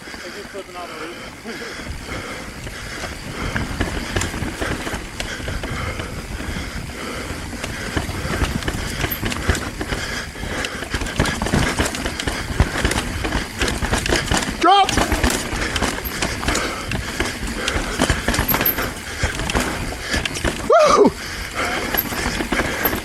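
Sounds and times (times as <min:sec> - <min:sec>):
bike rattling: 0:00.0 - 0:23.0
bike tyres clattering over rock: 0:00.0 - 0:23.0.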